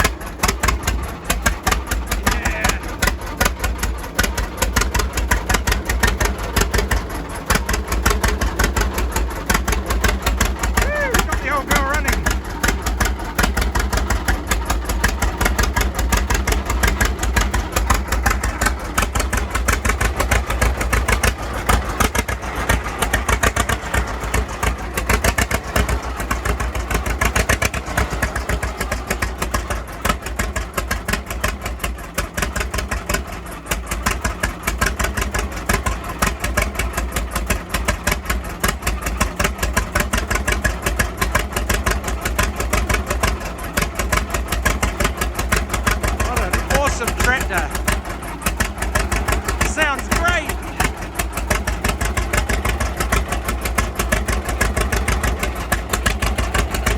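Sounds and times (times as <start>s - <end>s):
two-cylinder engine popping exhaust: 0.0s - 56.9s.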